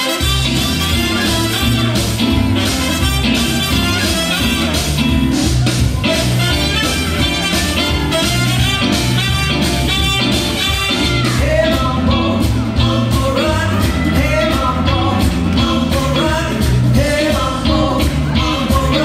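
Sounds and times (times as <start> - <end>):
upbeat rock and roll song: 0.0 - 19.0.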